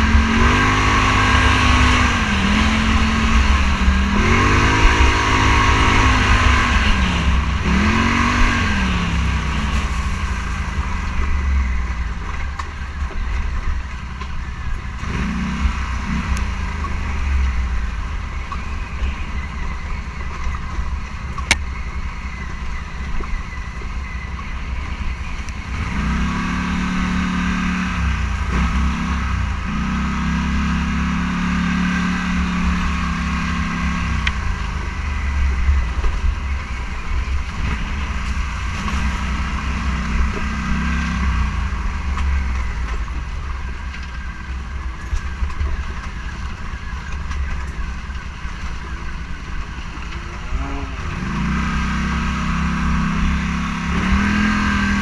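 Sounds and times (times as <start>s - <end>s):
low rumble of wind and terrain: 0.0s - 55.0s
off-road vehicle engine revving: 0.0s - 55.0s.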